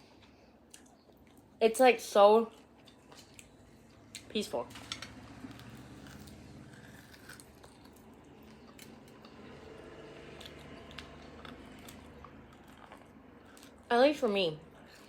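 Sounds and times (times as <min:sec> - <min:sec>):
person chewing softly: 0:00.0 - 0:01.6, 0:02.5 - 0:04.3, 0:05.4 - 0:13.9, 0:14.6 - 0:15.0
low steady hum: 0:00.0 - 0:15.0.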